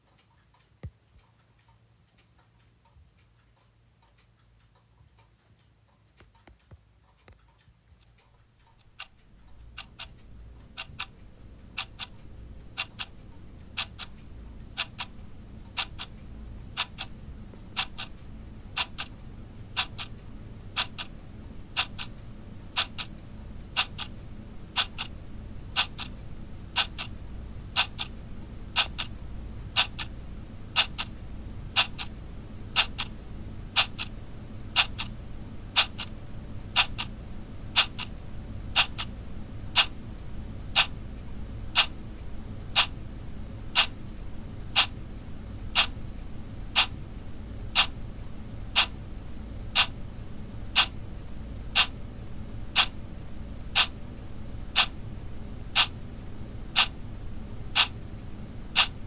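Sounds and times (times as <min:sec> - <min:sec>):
wall clock ticking: 0:00.0 - 0:59.0
low steady rumble: 0:07.8 - 0:59.0.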